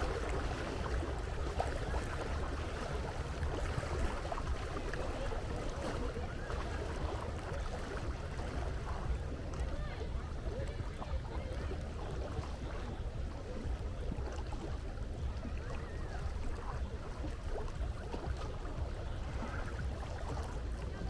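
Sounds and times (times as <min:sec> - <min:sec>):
sea water washing: 0:00.0 - 0:21.0.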